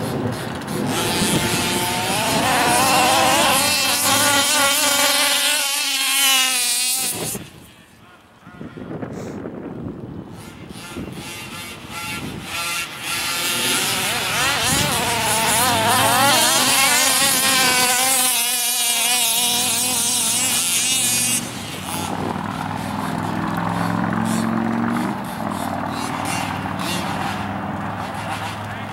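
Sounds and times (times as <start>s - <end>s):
rc buggy engines revving: 0.0s - 8.0s, 10.2s - 28.9s.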